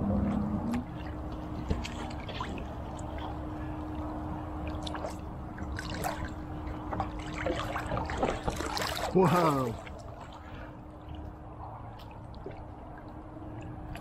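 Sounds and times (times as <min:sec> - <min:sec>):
steady low hum: 0:00.0 - 0:14.0
water lapping against float: 0:00.0 - 0:14.0.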